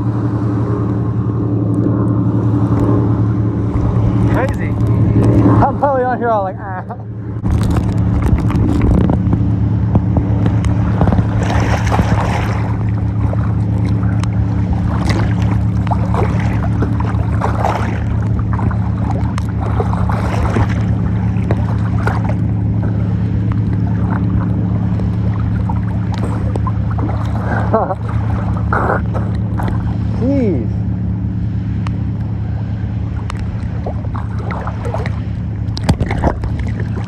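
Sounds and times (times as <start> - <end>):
motorboat engine humming: 0.0 - 37.0
water splashing and sloshing: 0.0 - 37.0.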